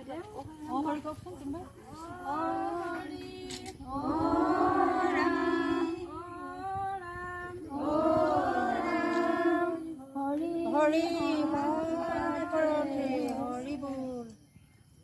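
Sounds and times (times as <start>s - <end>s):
voices singing together: 1.9s - 14.4s.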